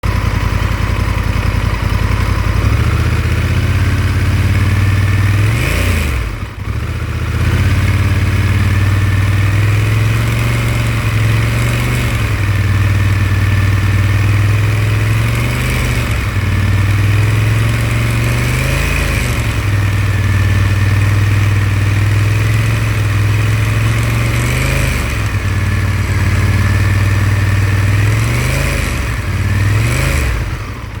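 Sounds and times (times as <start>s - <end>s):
engine rattling noise: 0.0s - 31.0s
motorcycle engine running: 0.0s - 31.0s.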